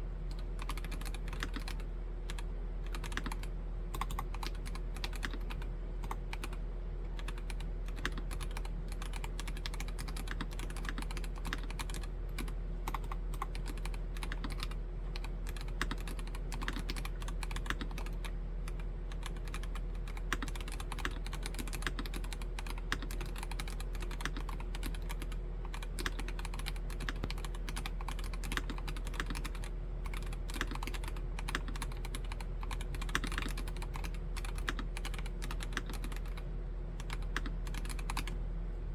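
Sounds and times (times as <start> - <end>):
mechanical keyboard typing: 0.3 - 6.6, 7.2 - 38.4.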